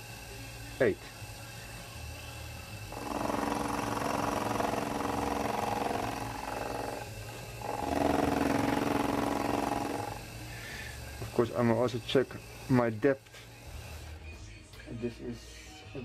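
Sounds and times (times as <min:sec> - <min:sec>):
cutting tool whine on metal: 0:00.0 - 0:13.2
drill press motor hum: 0:00.0 - 0:14.2.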